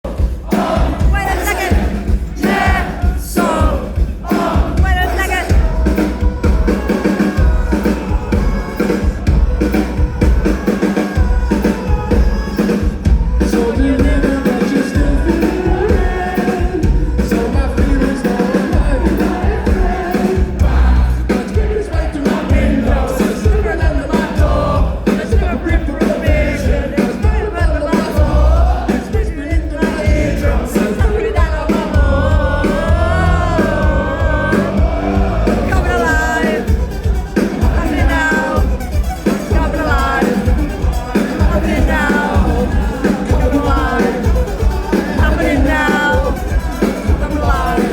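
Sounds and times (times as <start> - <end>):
drums: 0.0 - 47.9
heavy bass: 0.0 - 47.9
lead singer: 0.0 - 47.9
live rock band: 0.0 - 47.9.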